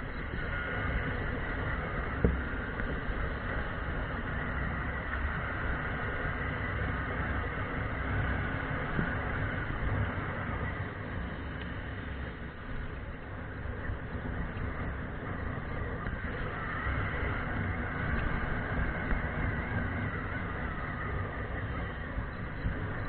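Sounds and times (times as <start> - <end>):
motorcycle engine rumble: 0.0 - 23.0
road noise: 0.0 - 23.0
wind noise: 0.0 - 23.0.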